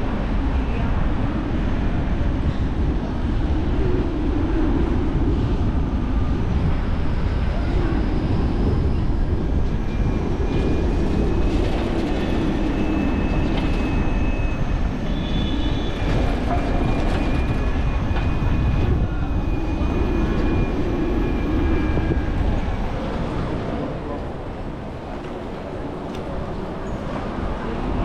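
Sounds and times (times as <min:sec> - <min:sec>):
electric bus whine: 0:00.0 - 0:28.0
wind buffeting microphone: 0:00.0 - 0:28.0.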